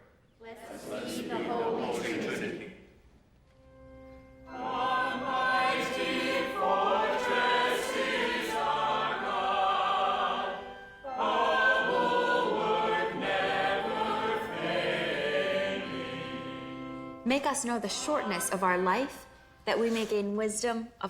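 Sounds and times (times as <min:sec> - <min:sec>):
choir singing: 0:00.4 - 0:03.0, 0:04.5 - 0:19.2.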